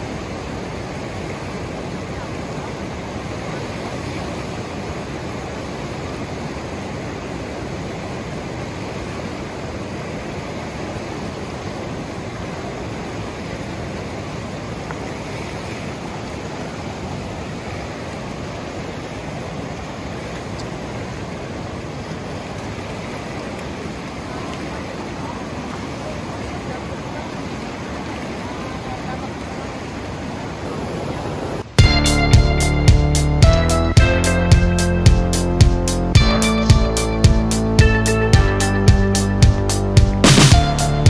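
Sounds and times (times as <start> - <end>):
river rushing over rocks: 0.0 - 33.0.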